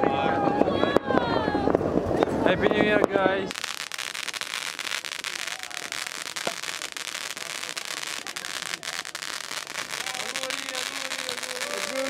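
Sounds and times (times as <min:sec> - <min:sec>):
firework crackling: 0:01.5 - 0:12.0.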